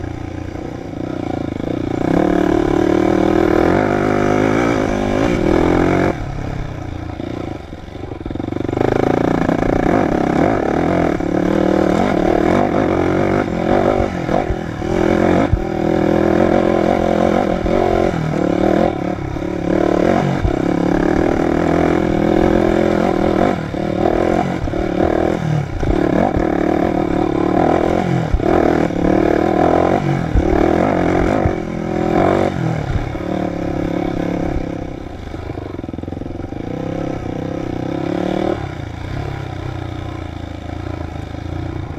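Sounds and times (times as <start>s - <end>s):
dirt bike engine revving: 0.0s - 41.9s
knocks and rattles from bike: 0.9s - 38.1s.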